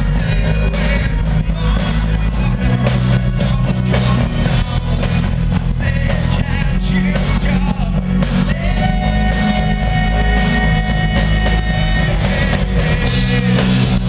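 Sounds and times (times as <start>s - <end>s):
bass guitar: 0.0s - 14.0s
drums: 0.0s - 14.0s
electric guitar: 0.0s - 14.0s
male lead vocal: 0.0s - 14.0s.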